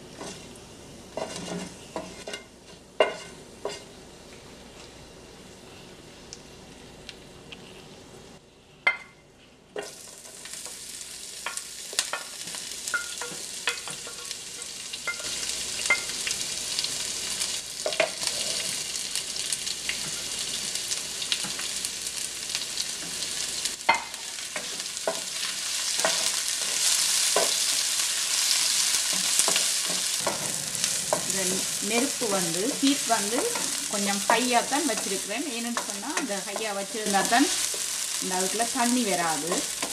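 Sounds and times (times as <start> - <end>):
onions sizzling in hot oil: 0.0 - 4.2, 9.8 - 39.9.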